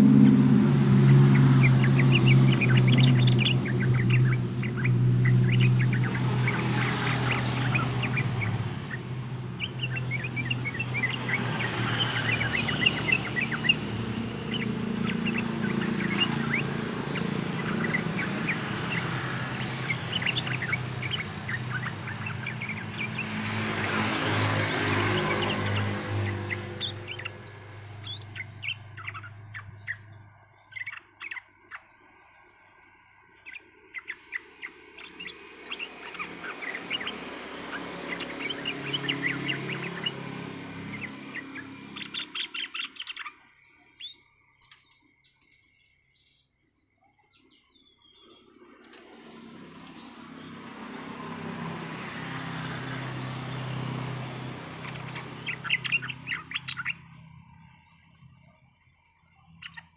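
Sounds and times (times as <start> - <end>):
bird chirping and singing: 0.0 - 59.9.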